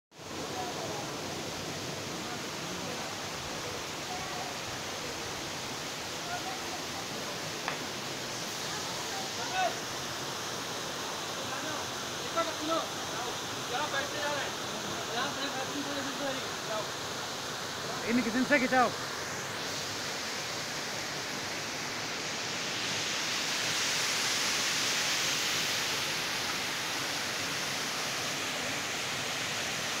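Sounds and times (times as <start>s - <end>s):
water running over boulders: 0.2s - 30.0s
waterfall rushing: 0.2s - 30.0s.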